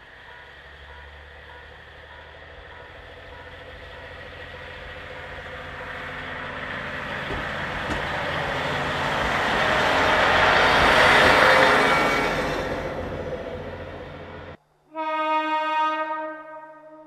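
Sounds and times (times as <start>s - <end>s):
diesel railcar passing: 0.0s - 14.6s.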